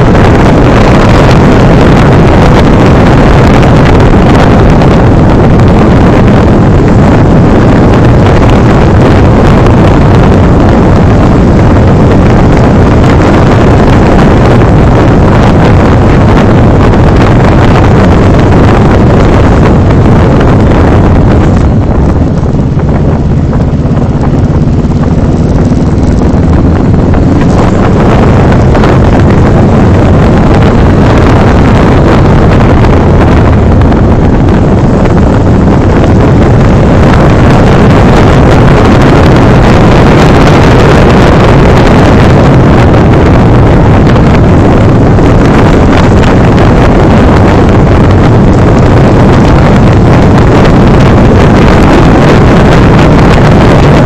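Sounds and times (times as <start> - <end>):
motorcycle engine hum: 0.0 - 54.0
road noise: 0.0 - 54.0
wind buffeting microphone: 0.0 - 54.0.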